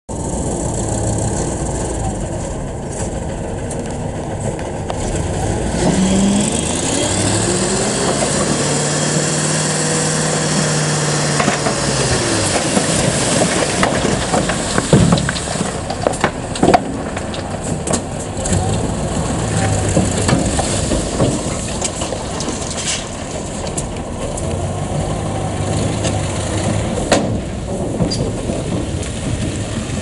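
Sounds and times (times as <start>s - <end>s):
diesel truck engine running: 0.1s - 30.0s
soil sliding out: 0.2s - 30.0s.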